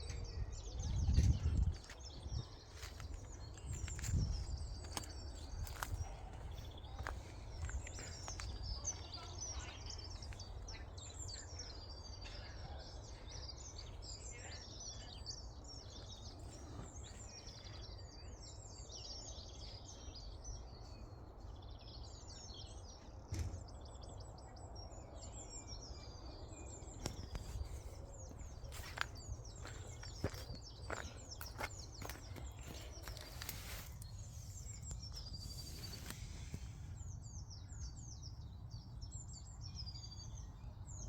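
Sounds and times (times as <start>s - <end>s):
small birds singing: 0.0s - 41.0s.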